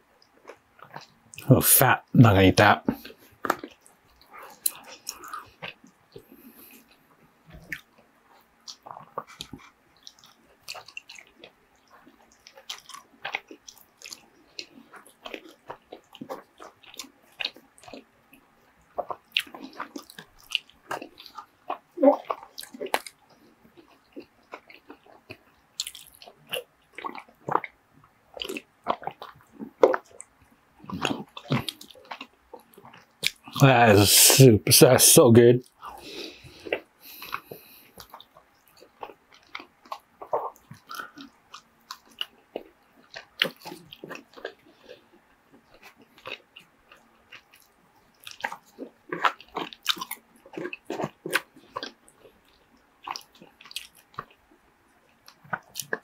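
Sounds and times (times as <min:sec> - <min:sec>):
person chewing soft food: 0:00.0 - 0:01.5, 0:02.8 - 0:34.4, 0:35.6 - 0:56.0.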